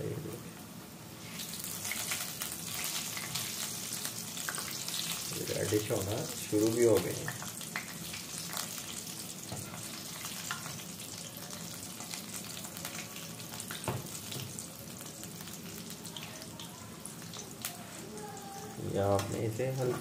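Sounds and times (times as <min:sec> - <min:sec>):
chips deep-frying in oil: 0:01.1 - 0:20.0.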